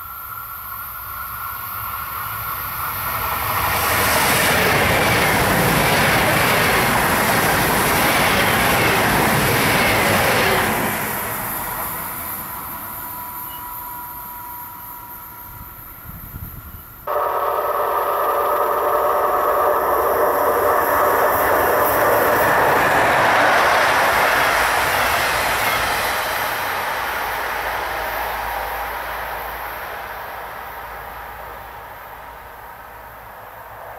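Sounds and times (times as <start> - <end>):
steady train tones: 0.0 - 33.9
train passing: 0.0 - 33.9.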